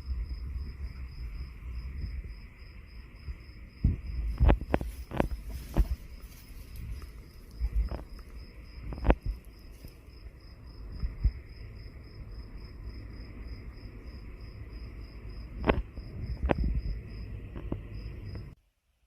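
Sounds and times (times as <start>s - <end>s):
insect chirping: 0.0s - 18.6s.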